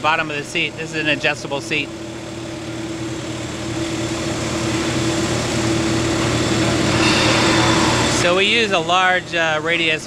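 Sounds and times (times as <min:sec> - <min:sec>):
machine motor humming: 0:00.0 - 0:10.0.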